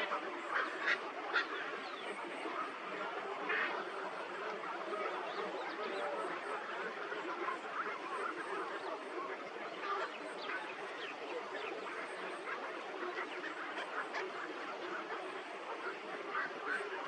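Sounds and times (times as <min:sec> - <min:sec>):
flock of birds chattering: 0:00.0 - 0:17.0.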